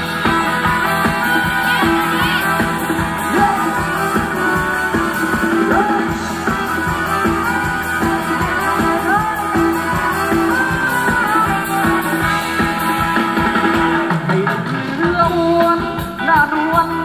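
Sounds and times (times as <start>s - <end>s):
live dance band playing: 0.0s - 17.0s.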